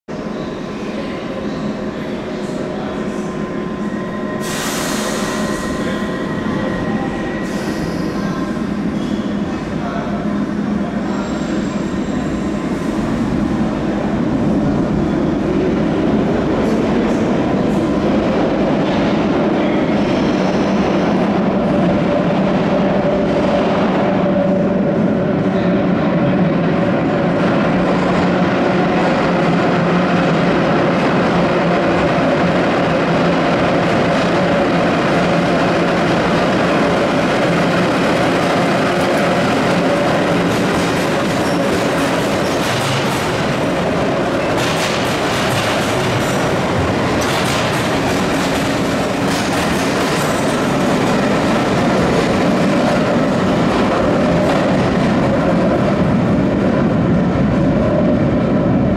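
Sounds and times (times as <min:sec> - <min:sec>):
train wheels rumbling on rail: 0:00.1 - 0:58.9.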